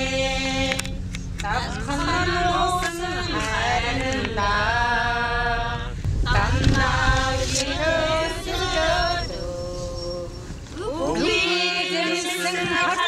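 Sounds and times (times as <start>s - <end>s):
low rumble of car driving: 0.0s - 13.0s.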